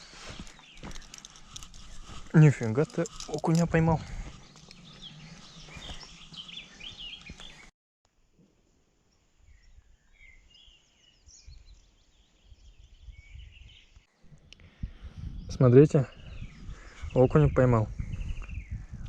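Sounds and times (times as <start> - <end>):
small birds chirping: 0.0 - 7.7, 9.1 - 19.0.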